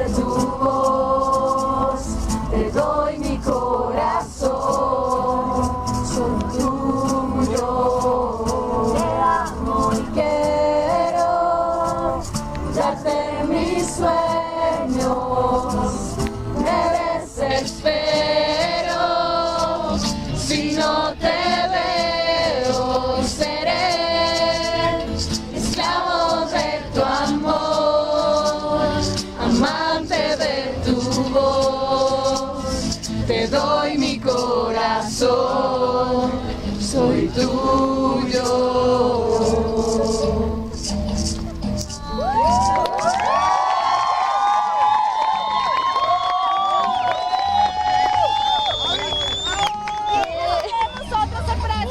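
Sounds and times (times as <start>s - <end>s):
voices singing together: 0.0s - 42.8s.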